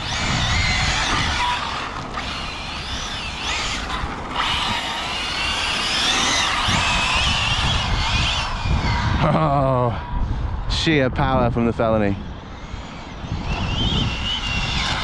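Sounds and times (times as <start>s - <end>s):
electric motor whining: 0.0s - 10.2s, 12.2s - 15.0s.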